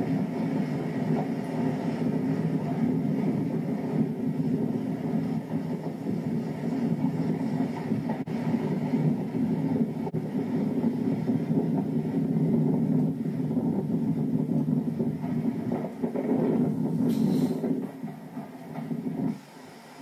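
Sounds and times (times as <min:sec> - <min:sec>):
train carriages rumbling on track: 0:00.0 - 0:20.0.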